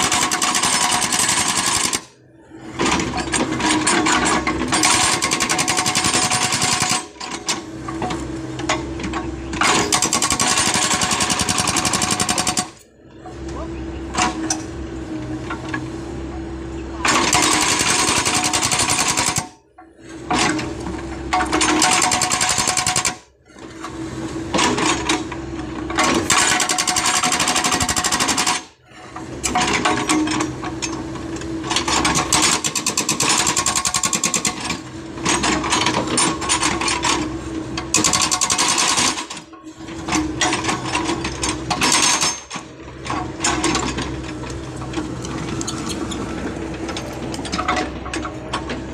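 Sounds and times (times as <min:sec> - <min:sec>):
hydraulic breaker hammer pounding rock: 0:00.0 - 0:14.8, 0:17.0 - 0:48.9
excavator engine running: 0:00.0 - 0:48.9.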